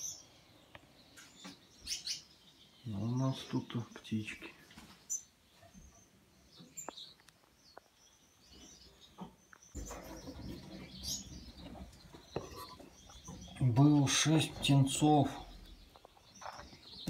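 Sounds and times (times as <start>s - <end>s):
finches chirping: 0.0s - 17.0s.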